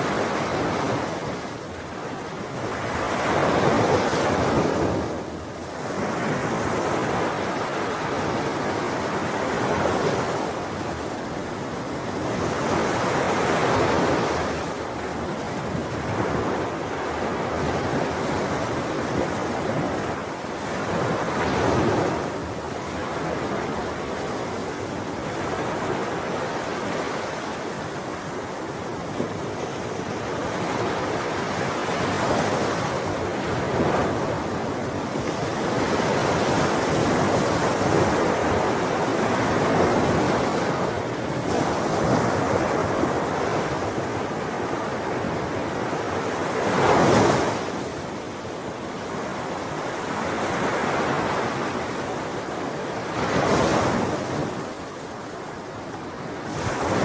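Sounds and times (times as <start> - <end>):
ocean waves breaking on shore: 0.0 - 57.0
wind: 0.0 - 57.0.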